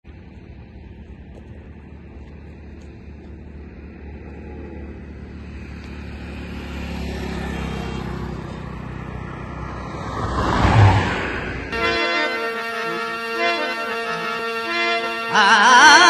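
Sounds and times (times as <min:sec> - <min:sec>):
motorcycle passing: 0:00.1 - 0:16.0.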